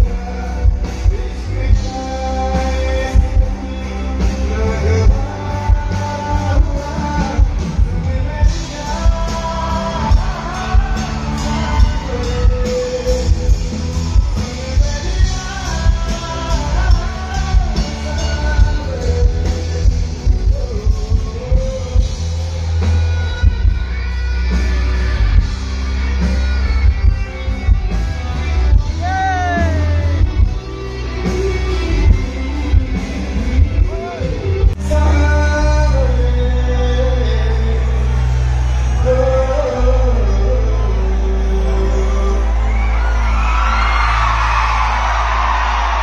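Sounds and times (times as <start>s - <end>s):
man singing: 0.0s - 23.9s, 28.5s - 43.6s
drums: 0.0s - 46.0s
electric guitars: 0.0s - 46.0s.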